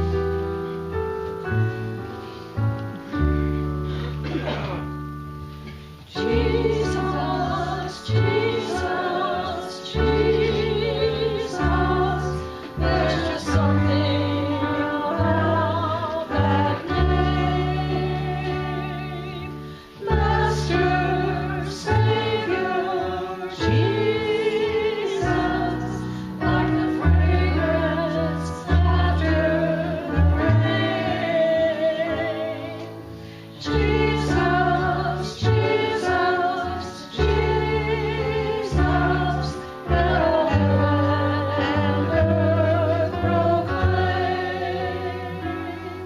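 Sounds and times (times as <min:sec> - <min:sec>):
keyboard accompaniment: 0:00.0 - 0:46.0
voices singing a slow hymn: 0:05.7 - 0:46.0.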